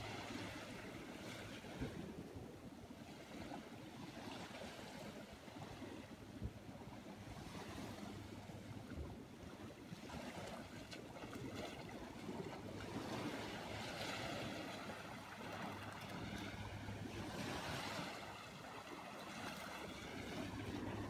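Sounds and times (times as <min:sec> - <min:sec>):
waves washing up a beach: 0:00.0 - 0:21.0.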